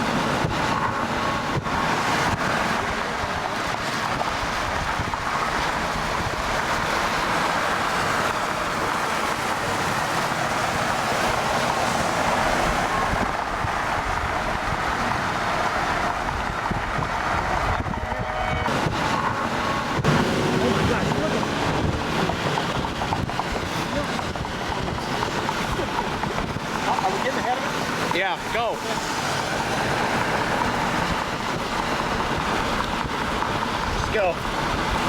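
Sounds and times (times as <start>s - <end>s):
car interior vehicle noise: 0.0s - 35.0s
rushing wind: 0.0s - 35.0s.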